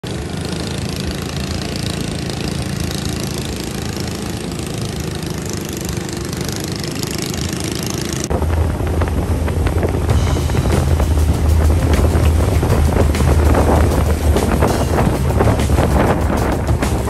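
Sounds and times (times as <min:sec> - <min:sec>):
motorboat engine running: 0:00.0 - 0:17.0
water rushing: 0:00.0 - 0:17.0
wind: 0:00.0 - 0:17.0.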